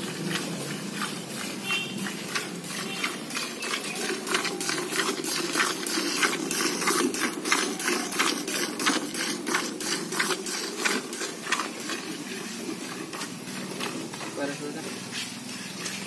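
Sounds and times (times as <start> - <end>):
milk squirting into plastic bucket: 0.0 - 16.0.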